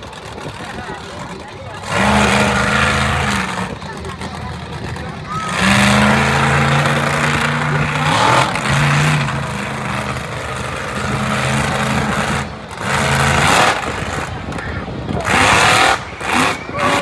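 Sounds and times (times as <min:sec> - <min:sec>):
truck engine revving high: 0:00.0 - 0:17.0.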